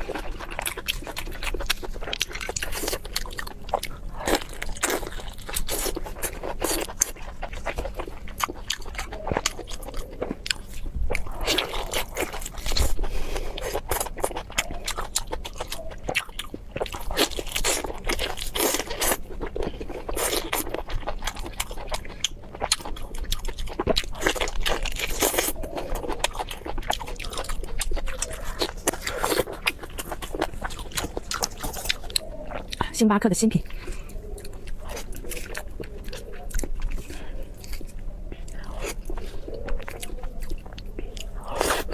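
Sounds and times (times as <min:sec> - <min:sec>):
crunching crispy food: 0:00.0 - 0:41.9.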